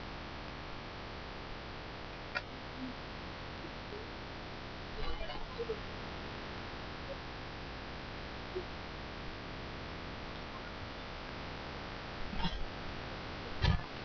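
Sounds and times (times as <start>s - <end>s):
room tone hiss and hum: 0.0s - 14.0s.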